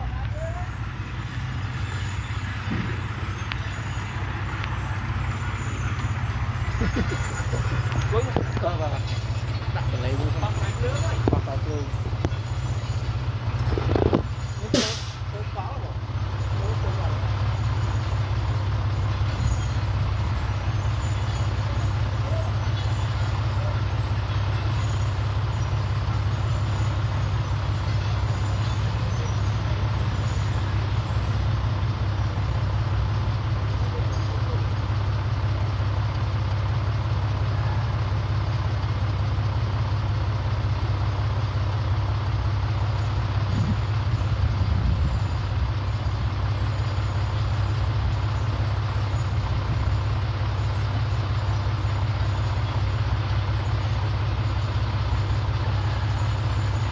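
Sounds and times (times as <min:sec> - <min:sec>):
bulldozer diesel engine droning: 0:00.0 - 0:56.9.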